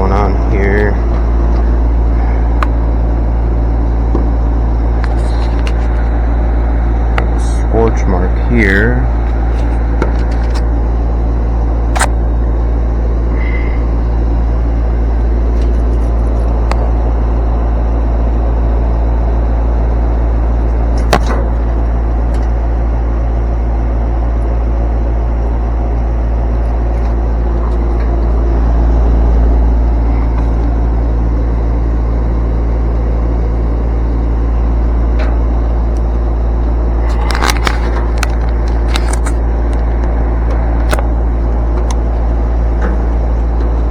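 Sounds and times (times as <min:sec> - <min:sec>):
low mechanical drone: 0:00.0 - 0:43.9.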